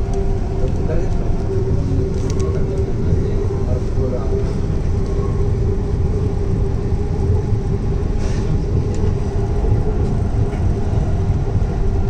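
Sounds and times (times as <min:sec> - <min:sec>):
droning tone: 0:00.0 - 0:12.0
train rumble: 0:00.0 - 0:12.0.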